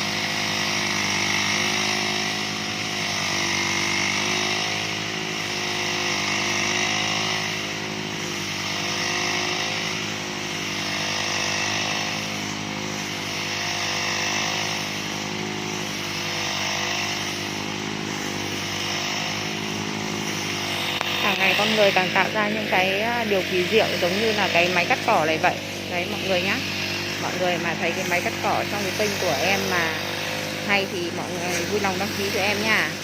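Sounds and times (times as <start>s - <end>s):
grass-cutting machine running: 0.0s - 33.0s.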